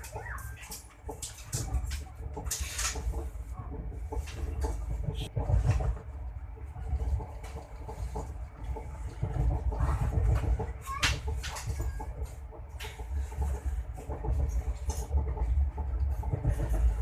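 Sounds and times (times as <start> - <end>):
knocks and rattles: 0.0 - 17.0
moving train rumble: 0.0 - 17.0.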